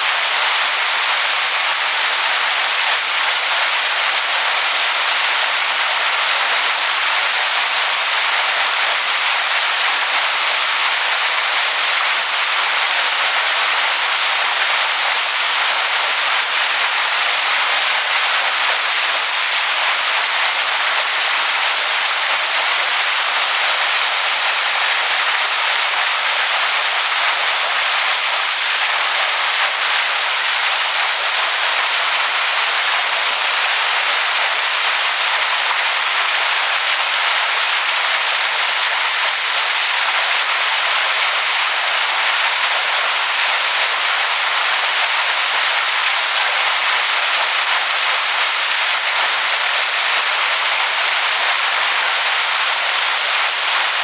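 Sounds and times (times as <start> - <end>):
waterfall splashing onto stones: 0.0 - 54.0.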